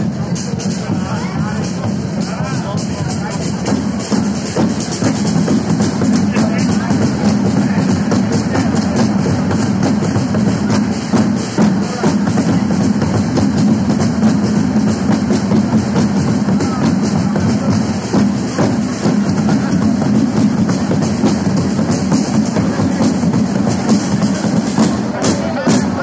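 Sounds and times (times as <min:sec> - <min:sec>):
deep bass drum: 0:00.0 - 0:26.0
drums and percussion rhythm: 0:00.0 - 0:26.0.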